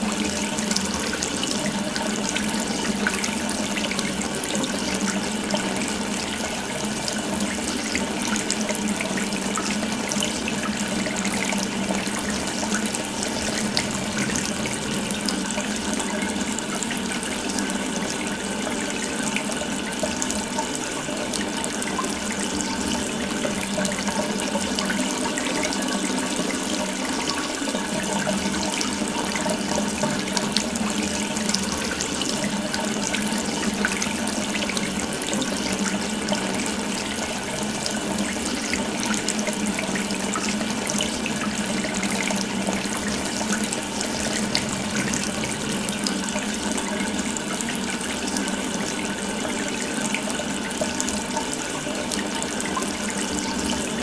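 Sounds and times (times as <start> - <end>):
water running from a tap: 0.0 - 54.0.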